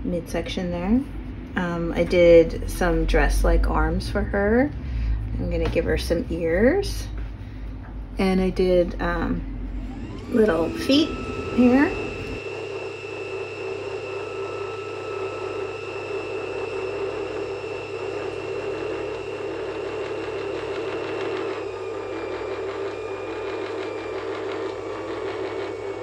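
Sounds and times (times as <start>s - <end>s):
mechanical whirring drone: 0.0s - 26.0s.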